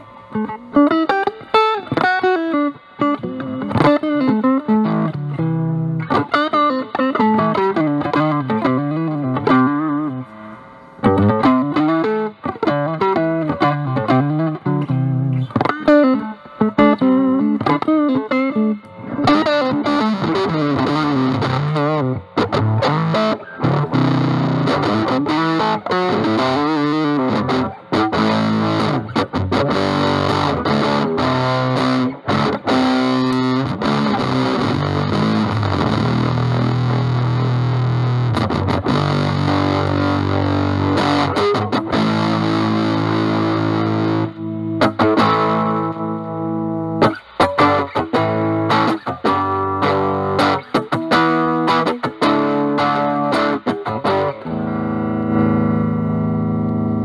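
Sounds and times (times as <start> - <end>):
fuzz electric guitar lead lines: 0.0 - 57.0.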